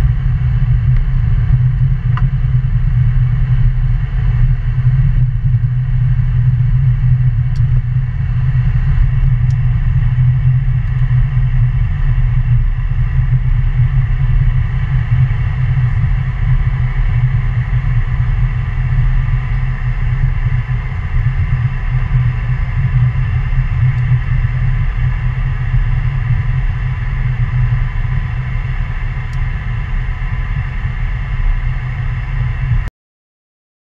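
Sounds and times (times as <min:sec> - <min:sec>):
jet engines running: 0:00.0 - 0:32.9.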